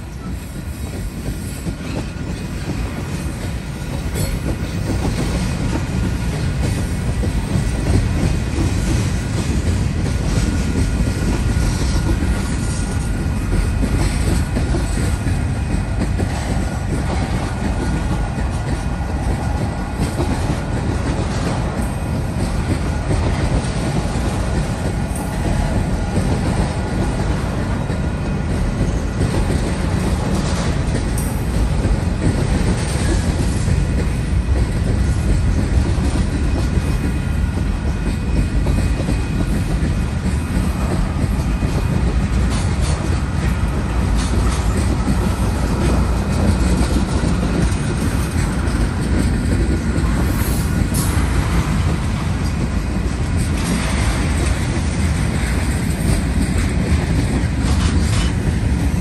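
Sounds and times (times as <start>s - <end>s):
train wheels rumbling on rail: 0.0s - 59.0s
wheels clacking over rail joints: 0.0s - 59.0s.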